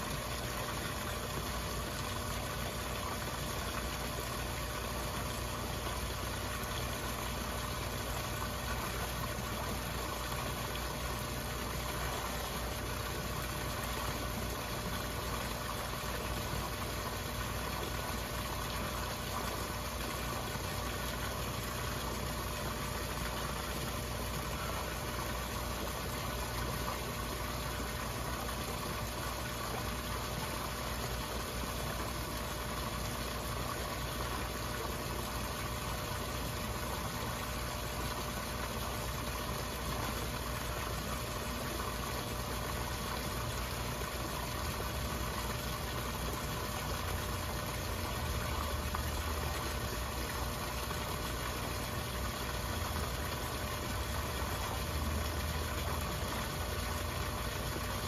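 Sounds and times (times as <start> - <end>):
churning running water: 0.0 - 58.0
pump humming: 0.0 - 58.0.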